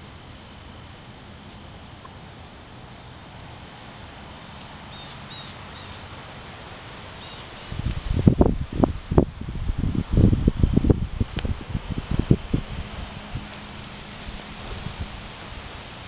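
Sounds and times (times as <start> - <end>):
low hiss and rumble: 0.0 - 16.0.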